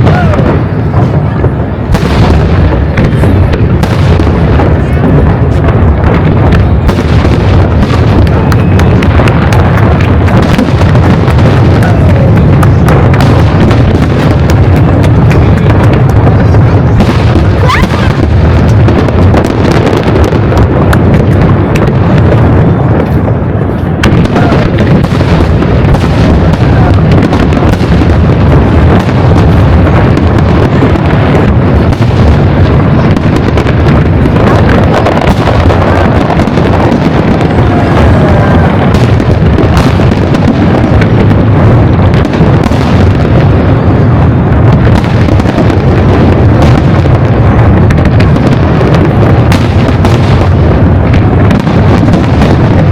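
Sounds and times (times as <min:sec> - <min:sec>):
fireworks exploding: 0:00.0 - 0:52.9.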